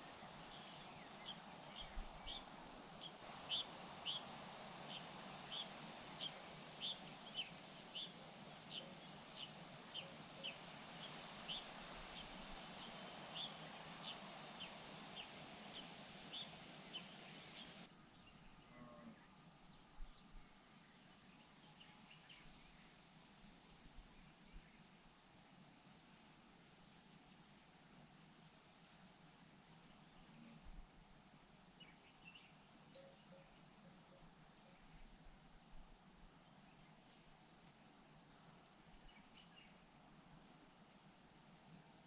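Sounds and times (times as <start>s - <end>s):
steady outdoor hiss: 0.0s - 42.0s.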